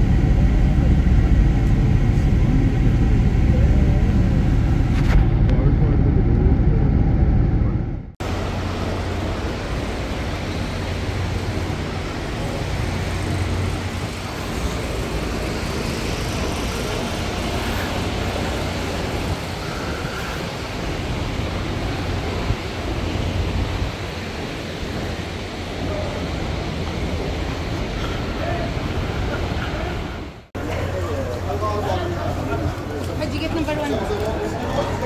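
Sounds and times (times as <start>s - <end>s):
low hum: 0.0s - 28.2s.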